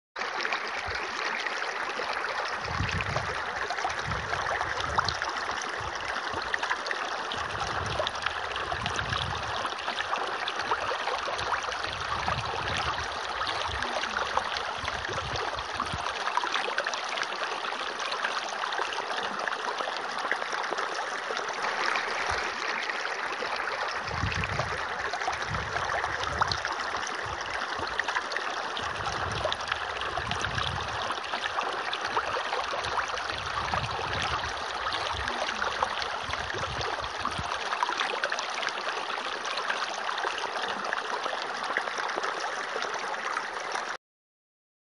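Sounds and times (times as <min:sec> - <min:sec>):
water trickling: 0:00.2 - 0:44.0.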